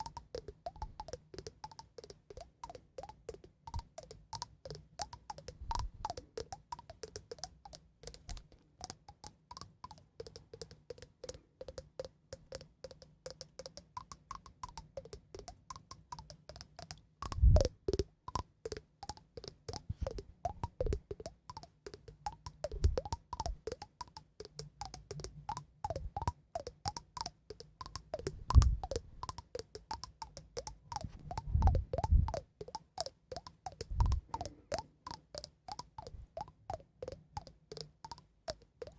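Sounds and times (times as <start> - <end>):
light tapping and clicking: 0.0 - 38.9.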